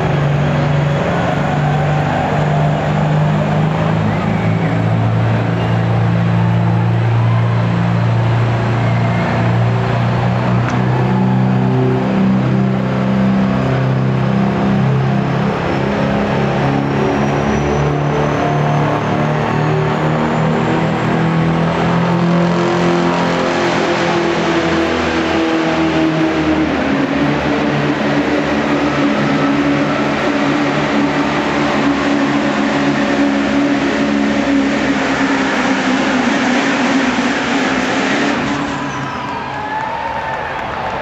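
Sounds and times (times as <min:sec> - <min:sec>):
truck engine at full throttle: 0:00.0 - 0:41.0.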